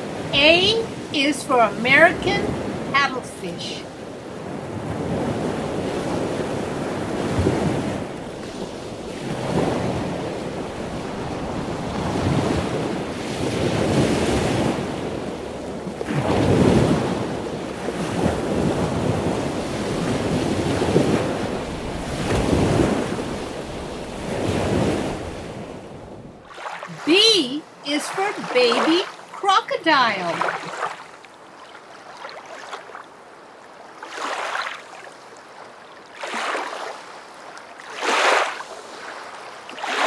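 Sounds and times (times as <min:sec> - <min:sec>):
ocean waves washing: 0:00.0 - 0:40.0.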